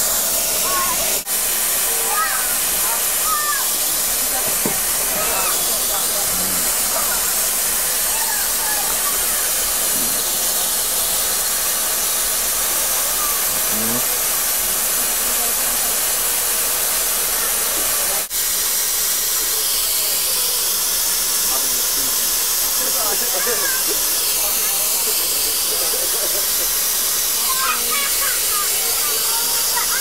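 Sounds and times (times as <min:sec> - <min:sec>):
steam hissing from locomotive: 0:00.0 - 0:30.0.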